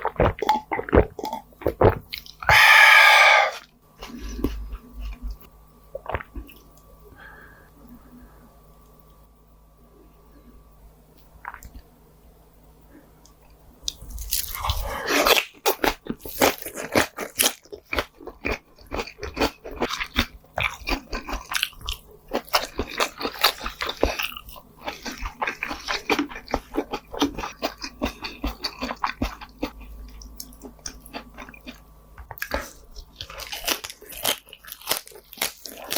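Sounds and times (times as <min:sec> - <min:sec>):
close chewing and mouth smacks: 0:00.0 - 0:03.0, 0:03.6 - 0:06.9, 0:13.3 - 0:35.9.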